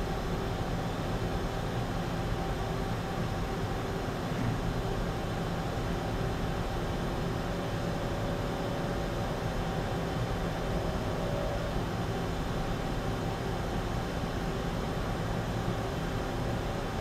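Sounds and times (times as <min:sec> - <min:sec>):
faint steady whine: 0:00.0 - 0:17.0
machine-shop machinery humming: 0:00.0 - 0:17.0.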